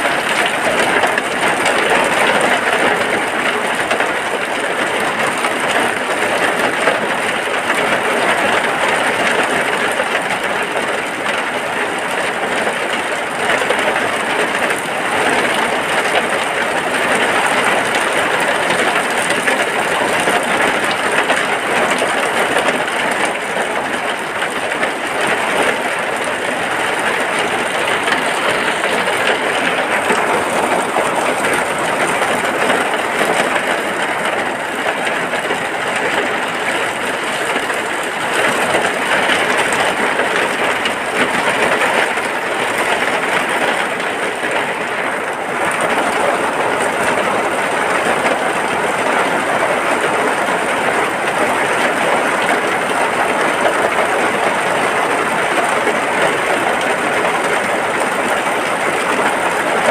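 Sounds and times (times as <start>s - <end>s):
rain falling on a hut: 0.0s - 59.9s.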